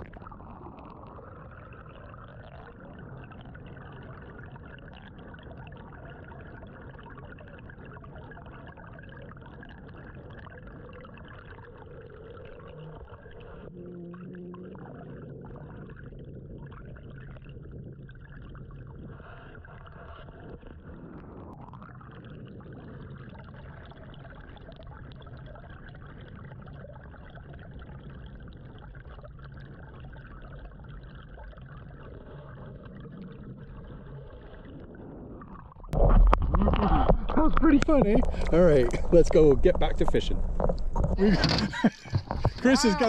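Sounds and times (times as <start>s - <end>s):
underwater water noise: 0.0s - 43.0s.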